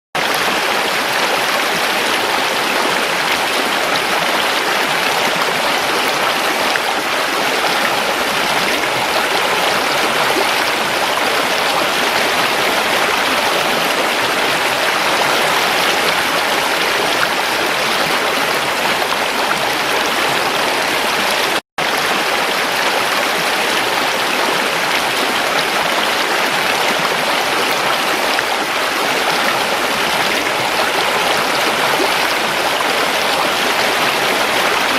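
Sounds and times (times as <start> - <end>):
creek water babbling: 0.2 - 34.9.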